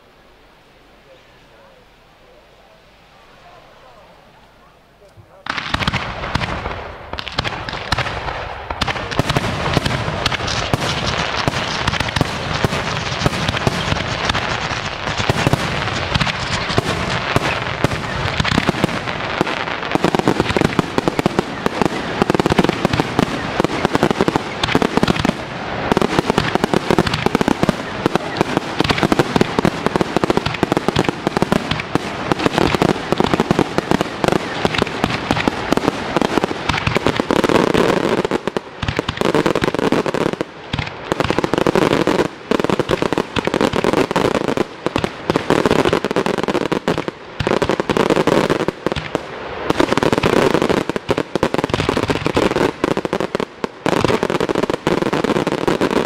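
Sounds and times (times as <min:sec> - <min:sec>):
fireworks bangs and crackles: 0:05.1 - 0:56.0.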